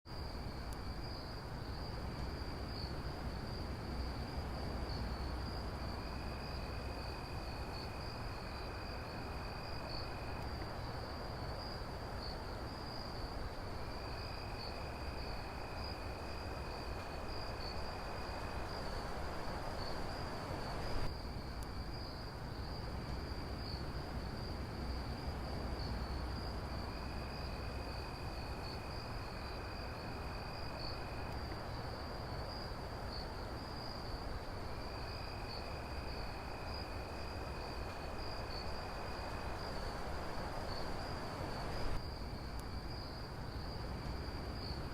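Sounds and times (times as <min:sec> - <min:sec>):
crickets chirring: 0:00.1 - 0:44.9
low hum and hiss: 0:00.1 - 0:44.9
lower insect trill: 0:00.1 - 0:44.9.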